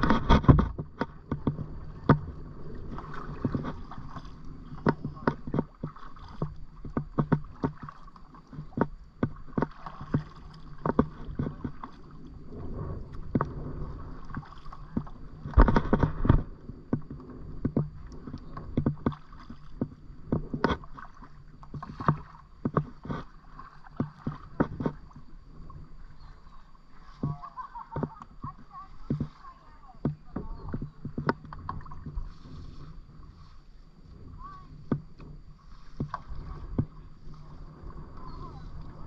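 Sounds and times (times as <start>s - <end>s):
kayak clicks and knocks: 0.0s - 32.6s, 34.4s - 39.0s
paddle water splashing and dripping: 0.0s - 39.0s.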